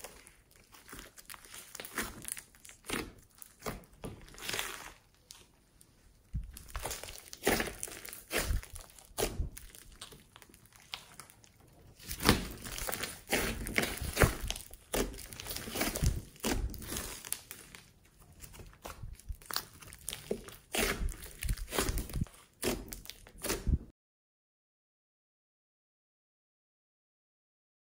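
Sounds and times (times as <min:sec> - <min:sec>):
slime squishing and crackling: 0:00.0 - 0:23.9.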